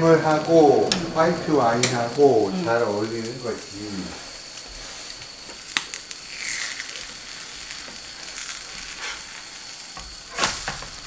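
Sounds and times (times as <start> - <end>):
pancake sizzling in oil: 0.0 - 11.0.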